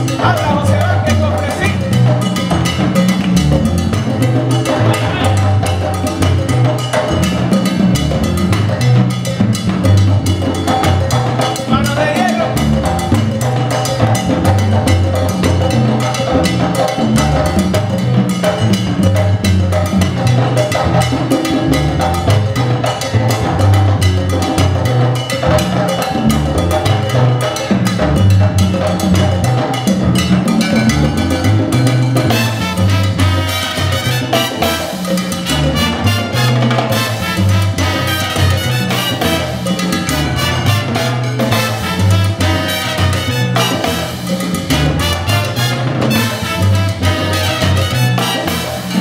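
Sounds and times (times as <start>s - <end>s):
bass line: 0.0s - 49.0s
congas and latin percussion: 0.0s - 49.0s.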